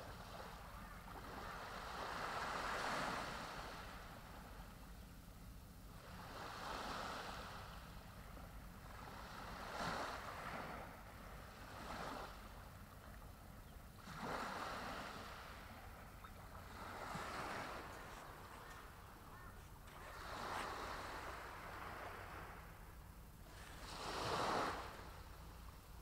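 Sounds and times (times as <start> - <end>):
small waves breaking on beach: 0.0 - 4.7, 5.9 - 26.0.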